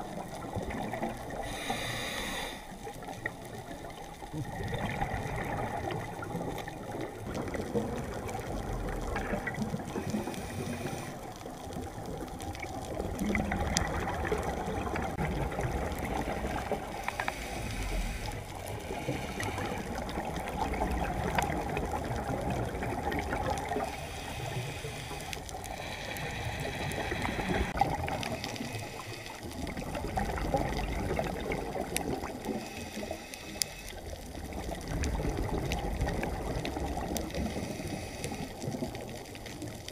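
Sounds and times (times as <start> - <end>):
faint clicks and crackles: 0.0 - 39.9
muffled underwater water rush: 0.0 - 39.9.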